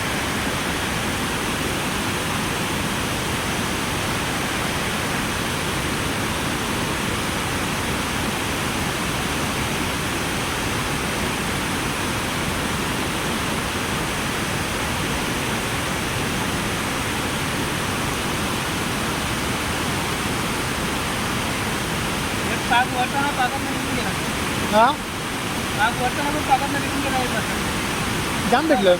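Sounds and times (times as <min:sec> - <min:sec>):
sea surf rushing: 0:00.0 - 0:28.9.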